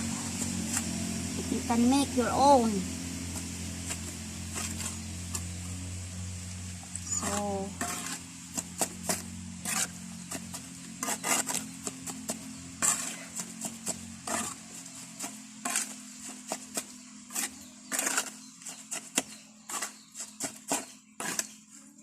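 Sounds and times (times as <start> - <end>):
tool scraping gritty mix: 0.0 - 22.0.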